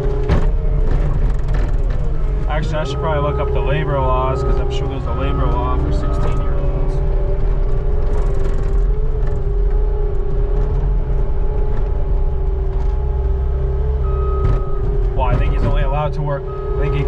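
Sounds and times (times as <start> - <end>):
skid steer engine droning: 0.0 - 17.0.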